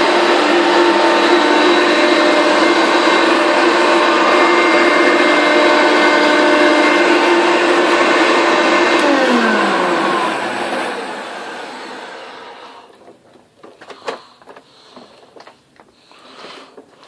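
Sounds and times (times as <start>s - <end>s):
vacuum cleaner whining: 0.0s - 17.0s.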